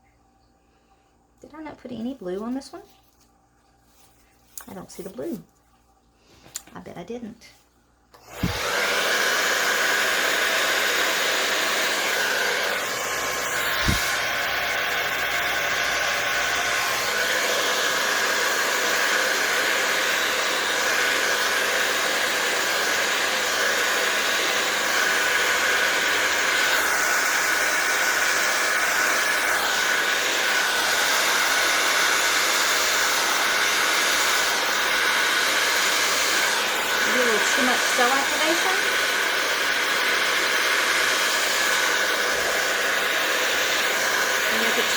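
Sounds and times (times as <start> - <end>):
blow dryer running: 8.1 - 44.9.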